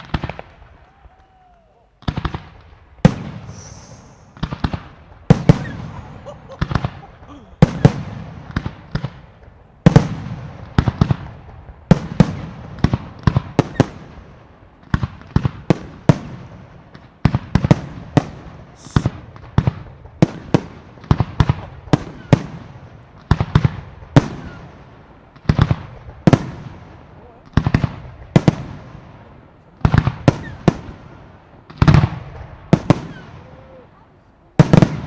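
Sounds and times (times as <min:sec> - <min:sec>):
fireworks bangs with echo: 0:00.0 - 0:33.9, 0:34.5 - 0:35.0.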